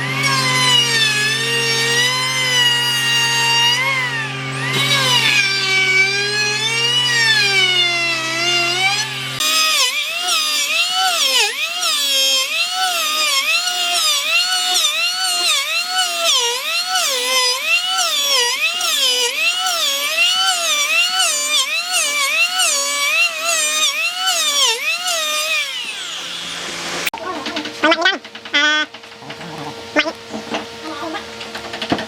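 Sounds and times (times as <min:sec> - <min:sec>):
power tool whining into wood: 0:00.0 - 0:27.1.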